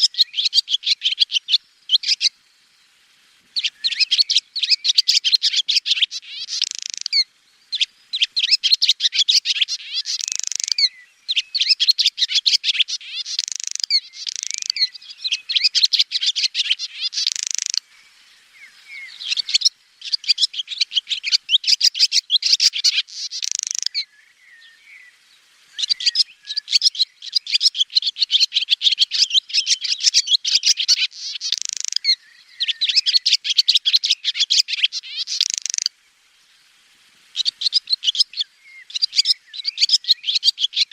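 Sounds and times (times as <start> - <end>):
swallow twittering: 0.0 - 2.4, 3.6 - 35.9, 37.3 - 40.9.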